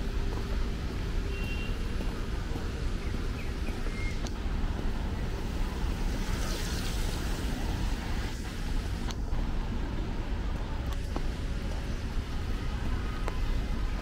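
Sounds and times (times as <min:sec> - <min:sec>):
traffic on a wet road: 0:00.0 - 0:14.0.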